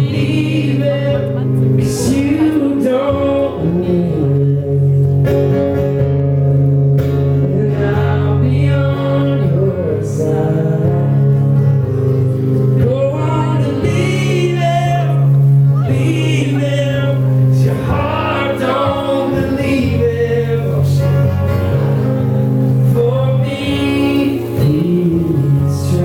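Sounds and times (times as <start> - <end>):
man singing: 0.0 - 5.7, 7.2 - 21.8, 22.6 - 26.0
acoustic guitar: 0.0 - 26.0.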